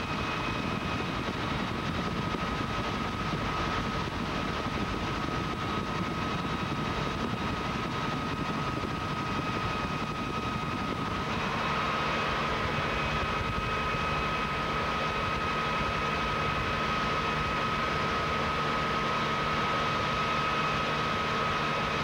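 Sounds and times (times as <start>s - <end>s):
high whine: 0.0s - 18.7s
helicopter engine and rotor drone: 0.0s - 22.0s.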